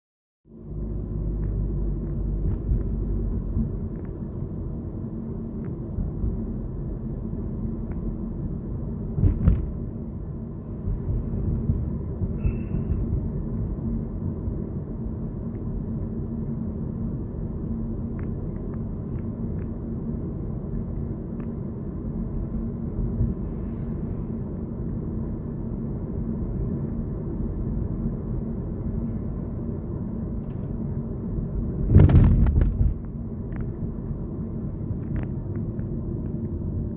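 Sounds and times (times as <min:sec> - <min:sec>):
road and engine rumble in car: 0:00.4 - 0:36.9.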